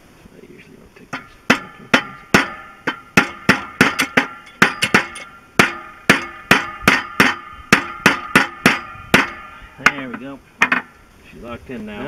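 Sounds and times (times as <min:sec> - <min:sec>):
hammer striking metal: 0:01.2 - 0:10.9.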